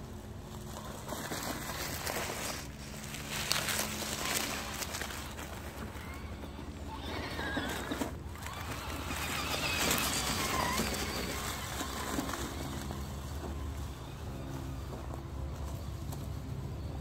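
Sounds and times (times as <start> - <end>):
rc truck electric motor whining: 1.6 - 17.0.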